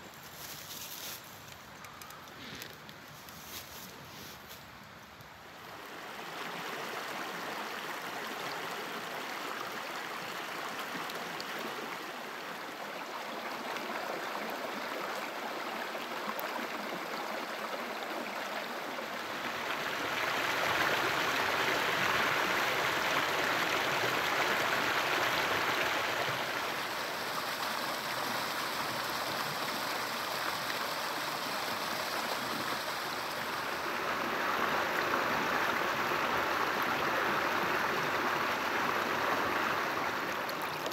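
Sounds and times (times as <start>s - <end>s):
creek water rushing over rocks: 5.4s - 40.9s.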